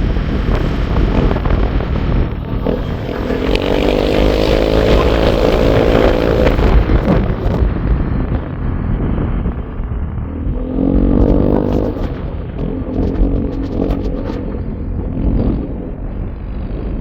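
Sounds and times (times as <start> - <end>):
heavy low rumble: 0.0 - 17.0
vehicle engine running: 0.0 - 17.0.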